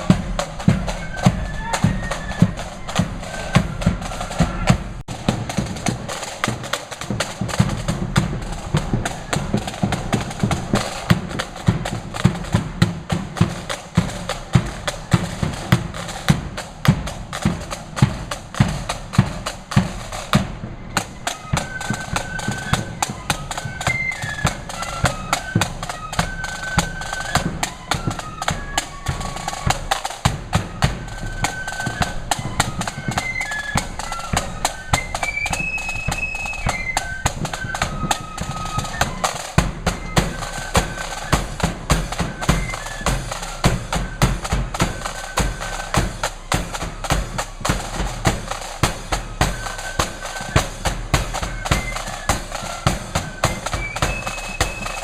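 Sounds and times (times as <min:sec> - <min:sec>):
flutes playing high melody: 0:00.0 - 0:55.0
snare drum rolls: 0:00.0 - 0:55.0.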